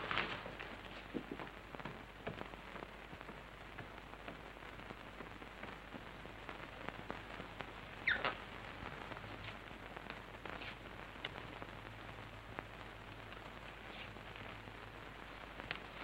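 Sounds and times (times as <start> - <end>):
film soundtrack hiss and crackle: 0.0 - 16.0.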